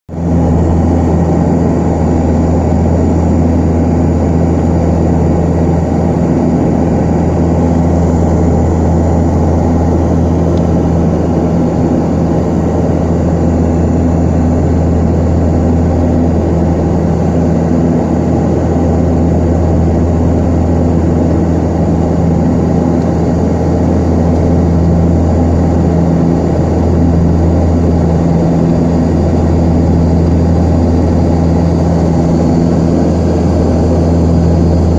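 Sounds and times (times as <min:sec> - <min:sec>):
turboprop engines droning: 0:00.1 - 0:34.9.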